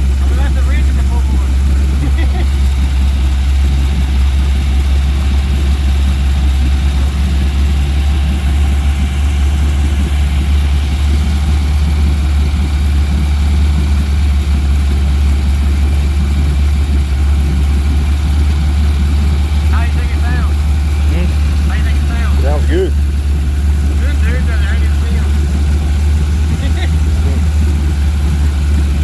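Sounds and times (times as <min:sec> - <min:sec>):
boat engine idling: 0:00.0 - 0:29.0.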